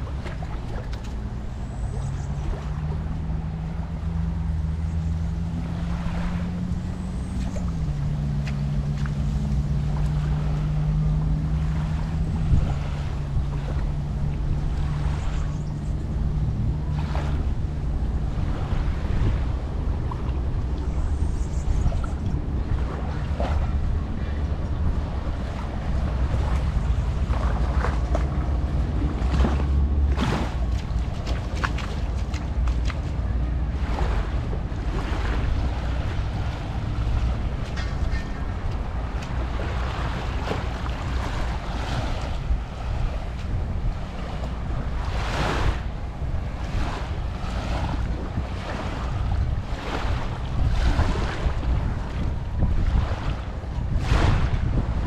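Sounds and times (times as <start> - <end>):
engine droning: 0.0 - 55.0
surf: 0.0 - 55.0
wind: 0.0 - 55.0.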